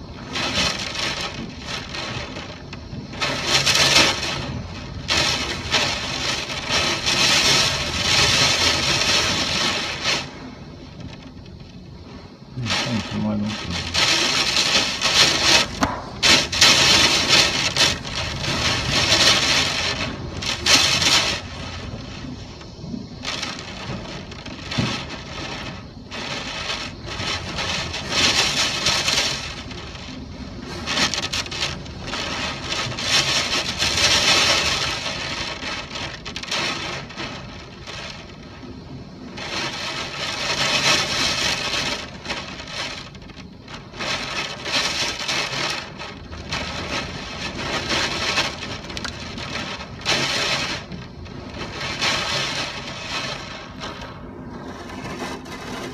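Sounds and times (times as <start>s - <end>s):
wind gusting: 0.0s - 55.9s.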